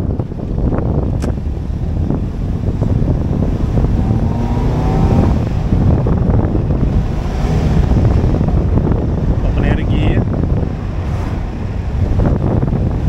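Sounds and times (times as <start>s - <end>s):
loud engine through holed exhaust: 0.0s - 13.0s
road rumble: 0.0s - 13.0s
wind noise: 0.0s - 13.0s.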